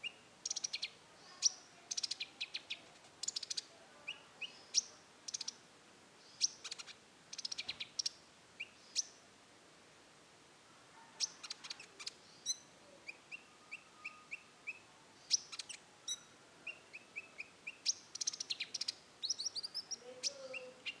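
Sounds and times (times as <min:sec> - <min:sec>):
songbird singing with trills: 0:00.0 - 0:05.6, 0:06.3 - 0:09.2, 0:11.2 - 0:21.0.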